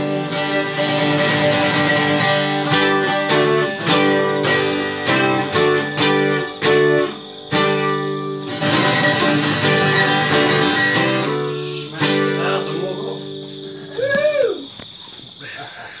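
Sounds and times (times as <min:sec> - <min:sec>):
acoustic guitars strummed: 0:00.0 - 0:15.4.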